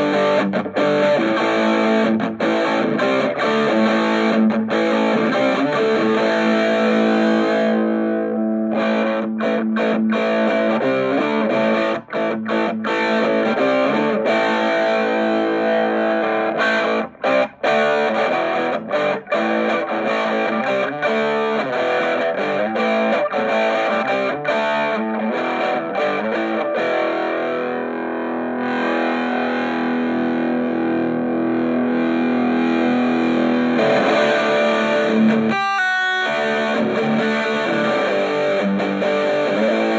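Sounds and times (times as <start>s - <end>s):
overdriven electric guitar chords: 0.0s - 39.9s.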